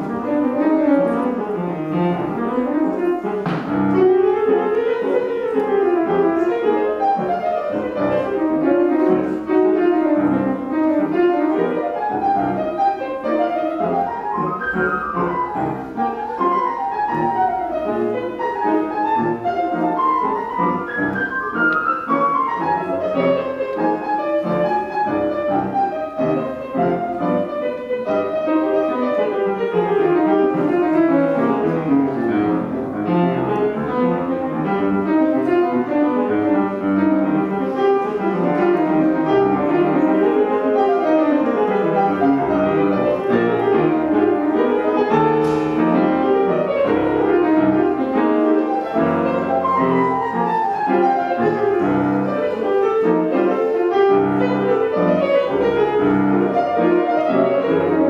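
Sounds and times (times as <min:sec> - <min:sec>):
solo jazz piano: 0:00.0 - 0:58.0.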